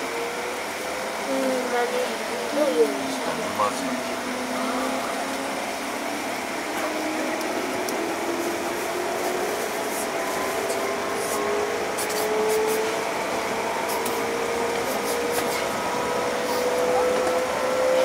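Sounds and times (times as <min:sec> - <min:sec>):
electric train motors whining: 0:00.0 - 0:18.0
train running noise: 0:00.0 - 0:18.0.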